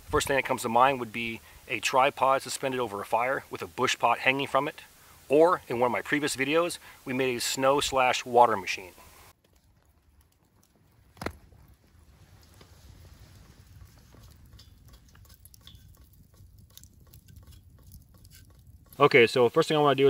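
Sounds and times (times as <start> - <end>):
crackling and pattering campfire: 0.0 - 20.0.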